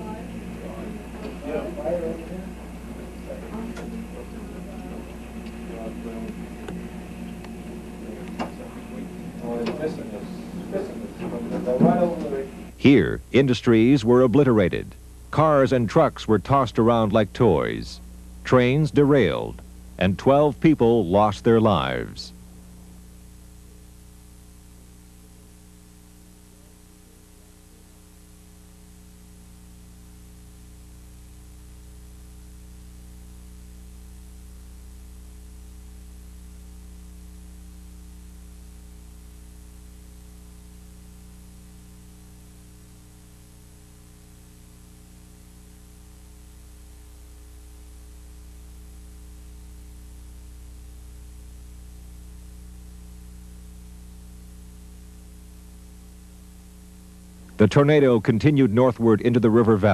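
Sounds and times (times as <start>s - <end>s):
electrical mains hum: 0.0s - 59.9s
faint tape hiss: 0.0s - 59.9s.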